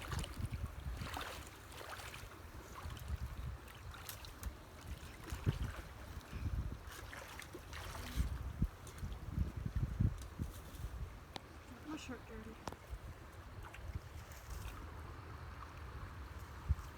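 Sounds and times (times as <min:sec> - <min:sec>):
creek water splashing: 0:00.0 - 0:16.9
wind rumble on microphone: 0:00.0 - 0:16.9.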